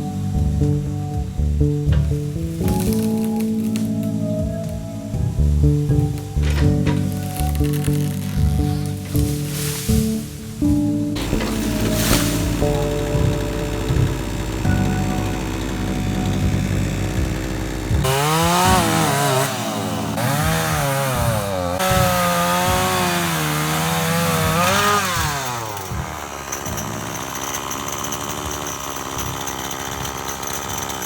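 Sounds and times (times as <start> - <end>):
chainsaw cutting log: 2.2 - 4.2, 6.0 - 31.0.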